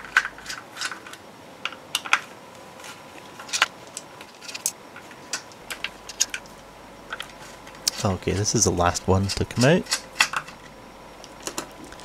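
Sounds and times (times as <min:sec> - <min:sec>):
parts being handled: 0:00.0 - 0:12.0.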